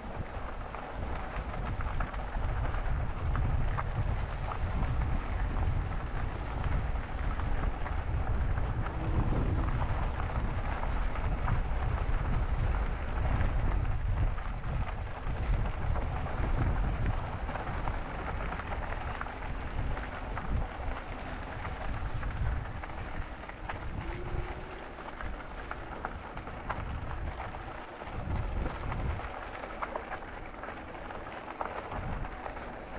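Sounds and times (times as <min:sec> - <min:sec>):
tyres rolling over gravel: 0:00.0 - 0:32.9
wind buffeting microphone: 0:00.0 - 0:32.9.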